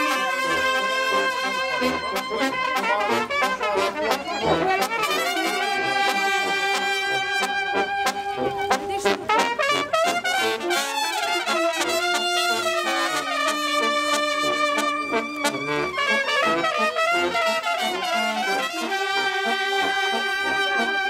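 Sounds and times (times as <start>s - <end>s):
brass music: 0.0s - 21.0s.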